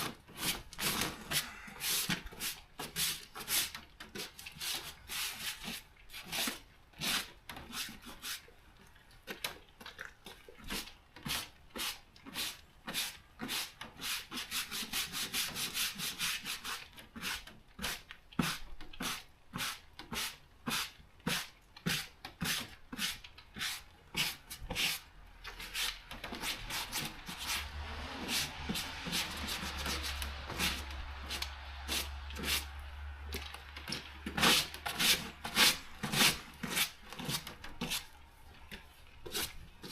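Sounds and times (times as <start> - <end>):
hand scraping back and forth: 0.0 - 8.6, 10.7 - 39.9.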